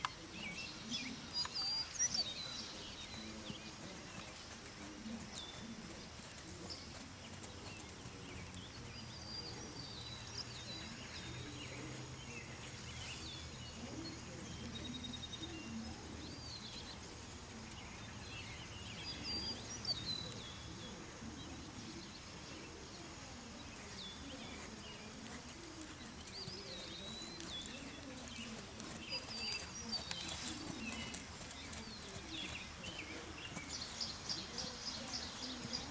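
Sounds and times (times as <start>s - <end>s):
birds chirping: 0.0s - 35.9s
outdoor background noise: 0.0s - 35.9s.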